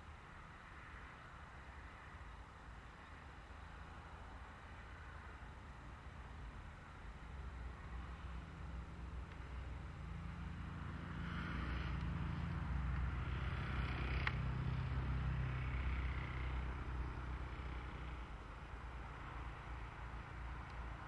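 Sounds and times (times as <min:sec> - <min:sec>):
distant vehicle engine hum: 0:00.0 - 0:21.0.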